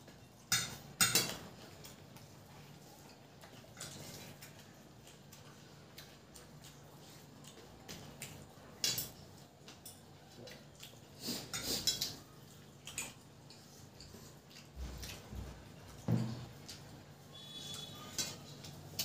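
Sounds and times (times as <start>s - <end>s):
chewing: 0.1s - 19.0s.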